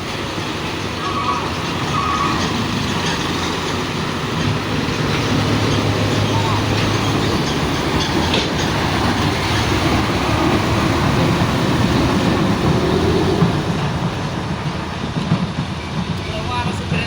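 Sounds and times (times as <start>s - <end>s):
heavy vehicle rumbling: 0.0s - 17.0s.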